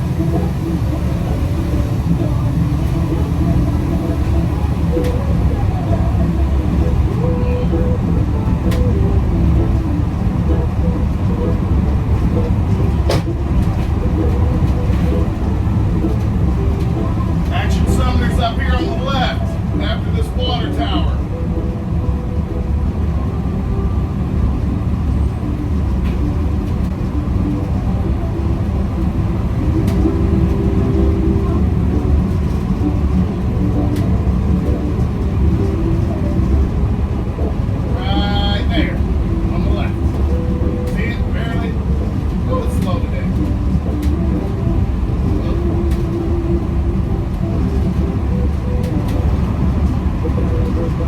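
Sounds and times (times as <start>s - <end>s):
truck engine and road rumble: 0.0s - 51.0s.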